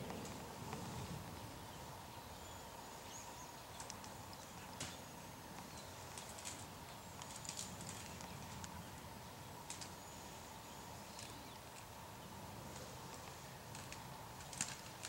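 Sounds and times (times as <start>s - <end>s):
faint steady hum and hiss: 0.0s - 15.0s.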